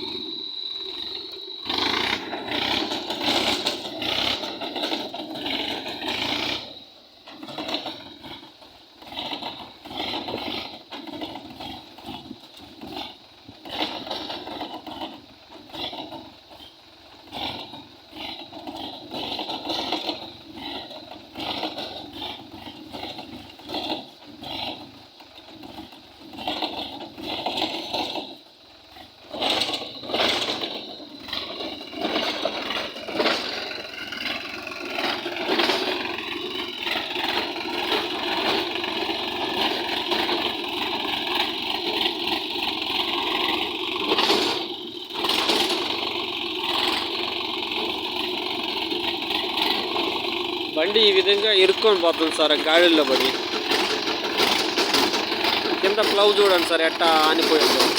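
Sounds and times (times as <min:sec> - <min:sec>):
tractor engine under load: 0:00.0 - 0:57.9.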